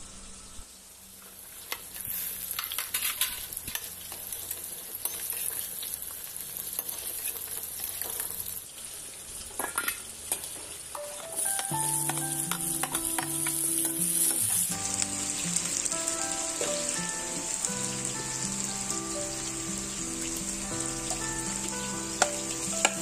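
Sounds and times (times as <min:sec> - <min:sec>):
fish sizzling in hot oil: 0:00.7 - 0:23.0.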